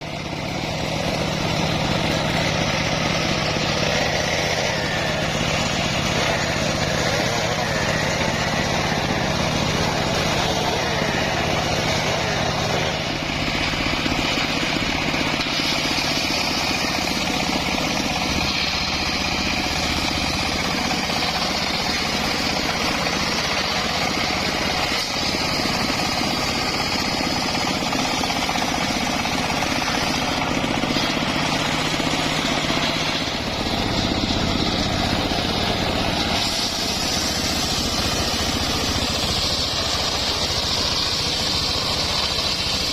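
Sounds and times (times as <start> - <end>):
circular saw cutting wood: 0.0 - 42.9.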